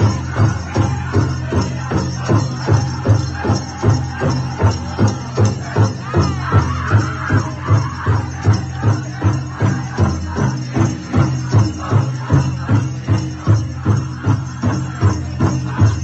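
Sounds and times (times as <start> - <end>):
bells jingling: 0.0 - 16.0
large drum beating: 0.0 - 16.0.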